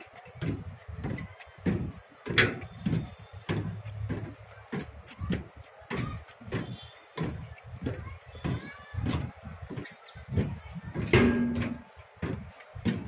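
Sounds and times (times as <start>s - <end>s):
irregular knocks and clatters: 0.0s - 13.0s.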